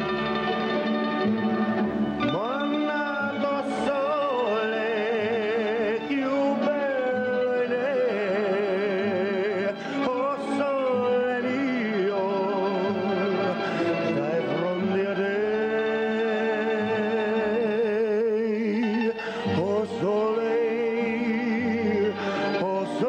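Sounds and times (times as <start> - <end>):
held accompaniment tones: 0.0 - 23.0
vibrato melody: 0.0 - 23.0.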